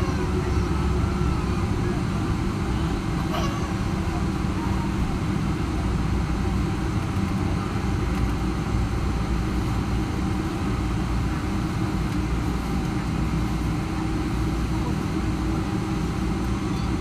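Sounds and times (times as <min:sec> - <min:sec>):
jet engines low rumble in cabin: 0:00.0 - 0:17.0.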